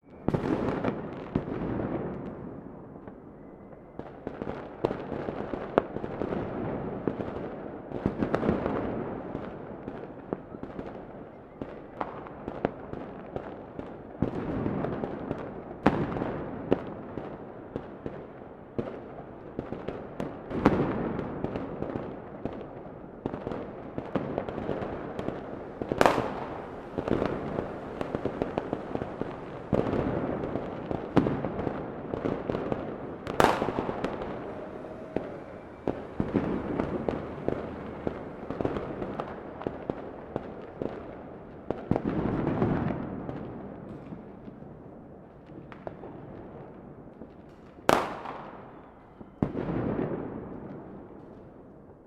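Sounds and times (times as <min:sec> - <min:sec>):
fireworks bangs and cracks: 0:00.1 - 0:03.2, 0:04.0 - 0:52.0.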